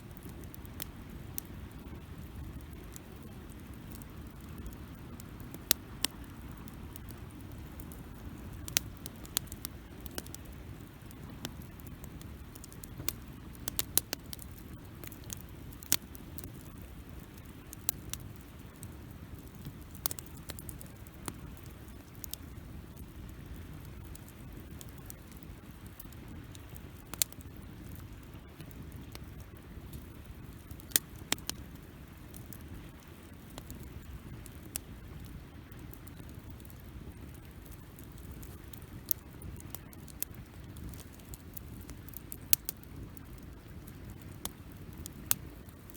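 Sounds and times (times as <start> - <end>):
campfire crackling and popping: 0.0 - 45.9
low rush of flames: 0.0 - 45.9.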